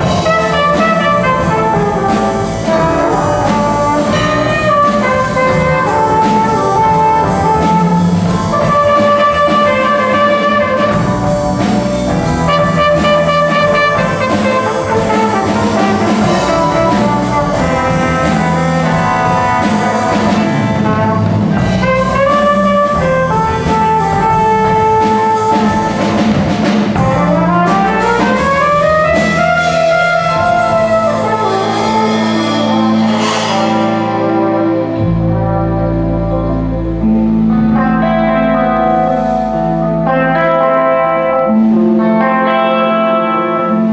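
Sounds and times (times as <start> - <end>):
steady cymbal beat: 0.0 - 37.0
horn section: 0.0 - 43.9
jazz band playing: 0.0 - 43.9.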